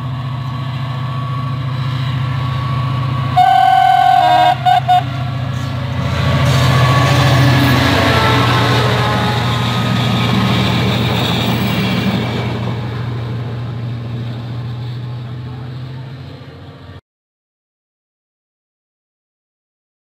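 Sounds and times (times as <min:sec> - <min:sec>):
diesel train engine hum: 0:00.0 - 0:17.0
train wheels on rails: 0:00.0 - 0:17.0.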